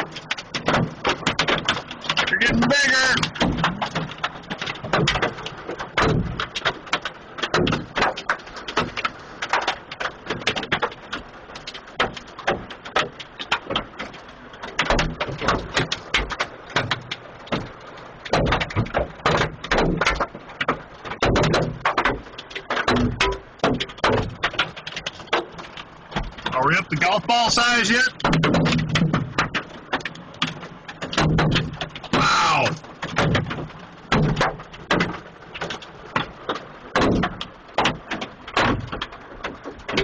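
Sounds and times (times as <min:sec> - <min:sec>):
hailstones pelting hard surfaces: 0:00.0 - 0:40.0.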